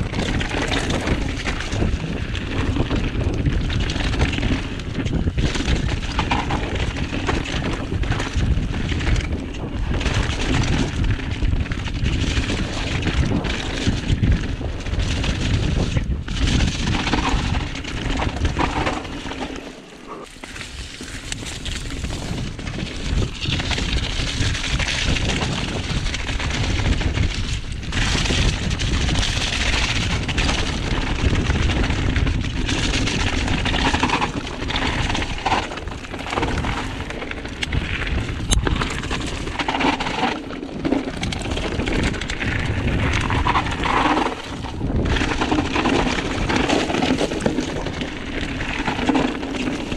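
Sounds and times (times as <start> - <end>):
wind buffeting microphone: 0.0 - 19.4, 20.1 - 49.9
bike knocks and rattles: 0.0 - 49.9
tyres rumbling over dirt: 0.0 - 49.9.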